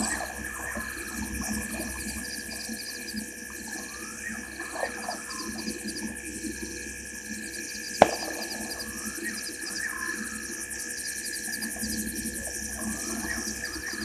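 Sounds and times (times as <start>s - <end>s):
frogs chirping: 0.0s - 14.0s
insects trilling and droning: 0.0s - 14.0s.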